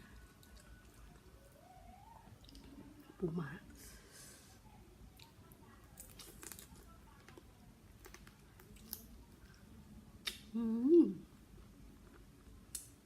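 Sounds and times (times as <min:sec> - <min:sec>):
soft chewing with crunches: 0:00.0 - 0:13.0.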